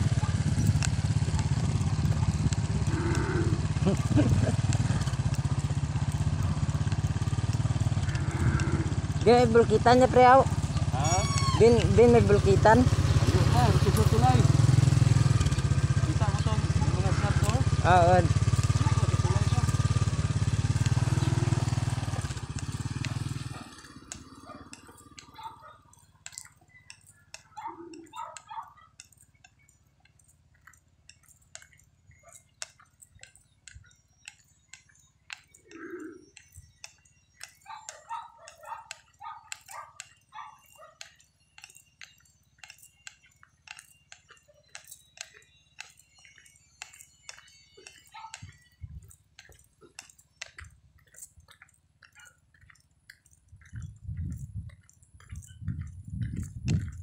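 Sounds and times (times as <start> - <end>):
footsteps on concrete: 0.0 - 9.2, 9.8 - 57.0.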